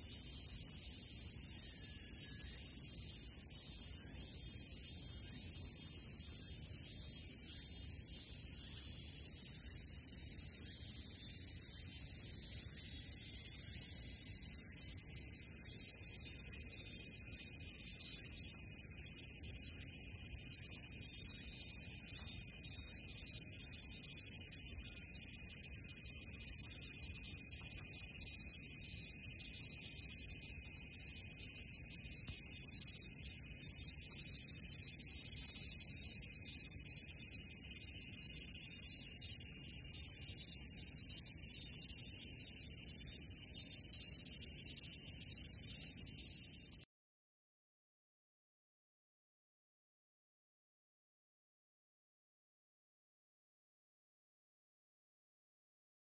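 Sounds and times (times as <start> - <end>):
insects droning: 0.0 - 46.8.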